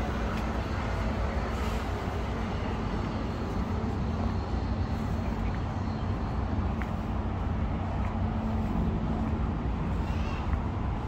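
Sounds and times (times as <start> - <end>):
low city rumble: 0.0 - 11.0.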